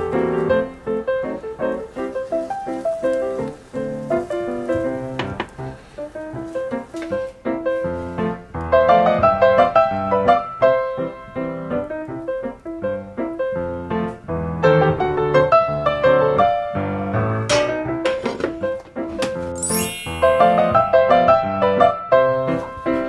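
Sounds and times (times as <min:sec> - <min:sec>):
lively piano music: 0:00.0 - 0:23.0.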